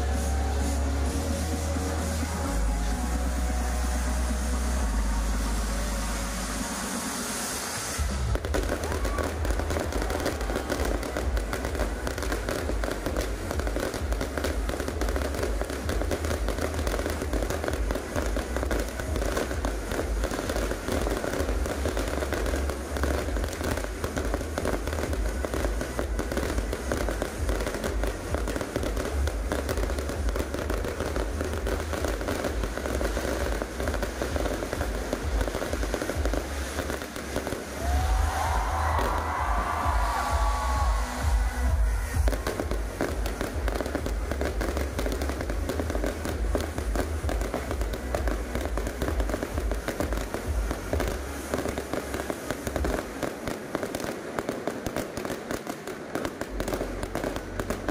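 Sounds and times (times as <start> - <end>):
fireworks crackling and popping: 0.0 - 57.9.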